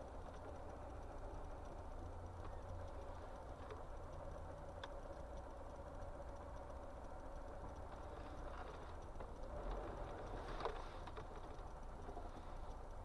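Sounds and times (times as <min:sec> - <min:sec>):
car driving low hum: 0:00.0 - 0:13.0.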